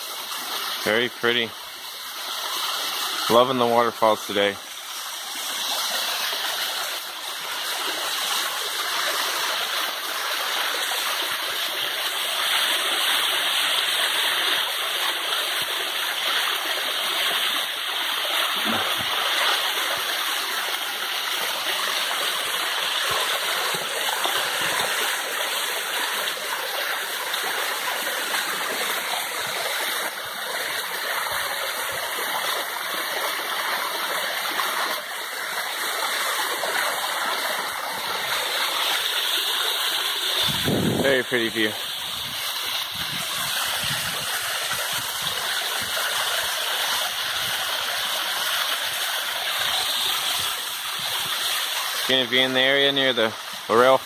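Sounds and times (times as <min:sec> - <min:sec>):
water splashing over rock ledges: 0:00.0 - 0:54.0.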